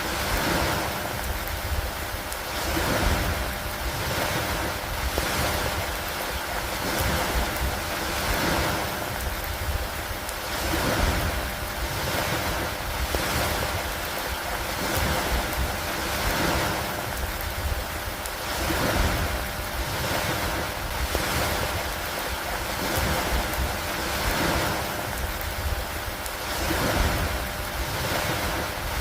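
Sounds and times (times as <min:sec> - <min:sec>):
rain over lake water: 0:00.0 - 0:29.0
wind: 0:00.0 - 0:29.0.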